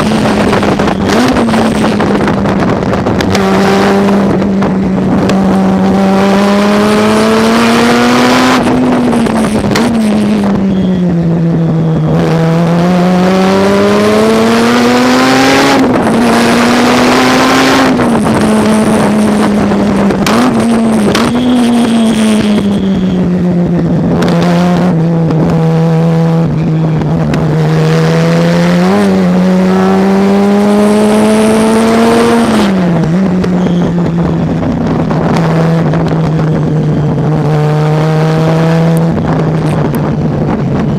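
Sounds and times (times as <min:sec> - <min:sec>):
race car engine accelerating: 0:00.0 - 0:40.9.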